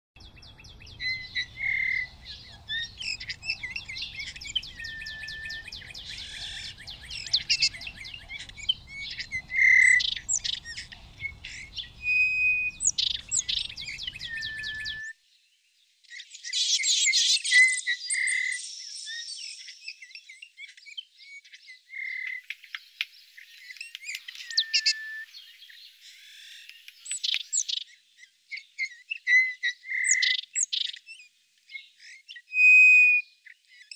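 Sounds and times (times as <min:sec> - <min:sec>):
soft whistled bird notes: 0:00.2 - 0:15.2, 0:16.1 - 0:33.9
songbirds chirping and trilling: 0:00.2 - 0:33.9.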